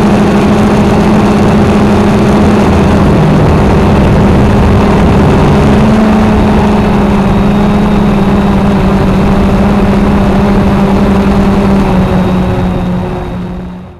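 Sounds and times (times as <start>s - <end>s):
drone motors humming: 0.0s - 13.9s
rushing air noise: 0.0s - 13.9s.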